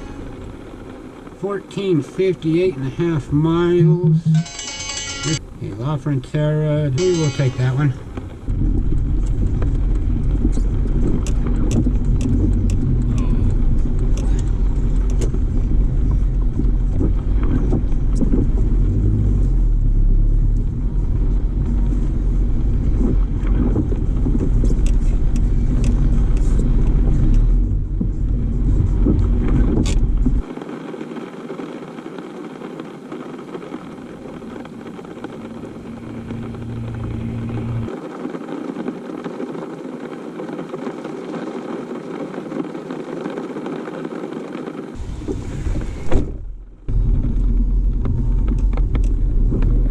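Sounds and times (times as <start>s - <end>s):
car road rumble: 0.0s - 49.9s.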